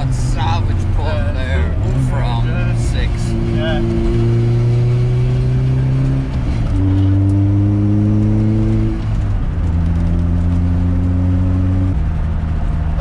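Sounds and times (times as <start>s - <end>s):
car engine accelerating through gears: 0.0s - 13.0s.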